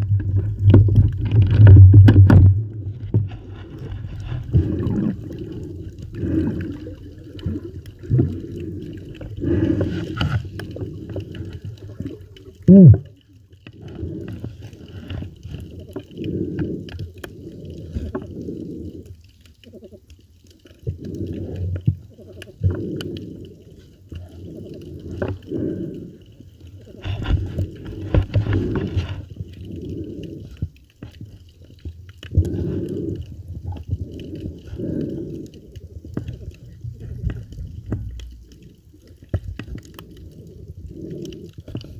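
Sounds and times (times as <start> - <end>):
gurgling water: 0.0 - 41.9
muffled underwater breathing: 0.0 - 41.9.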